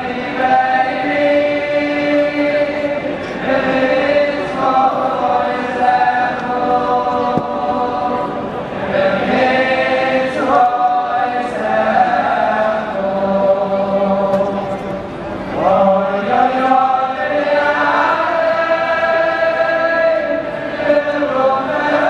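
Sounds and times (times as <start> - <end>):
men singing in unison: 0.0 - 14.7, 15.6 - 22.0.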